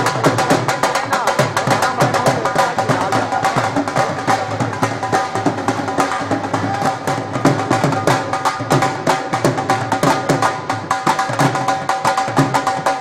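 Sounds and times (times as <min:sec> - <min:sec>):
dhol drums playing fast rhythm: 0:00.0 - 0:13.0.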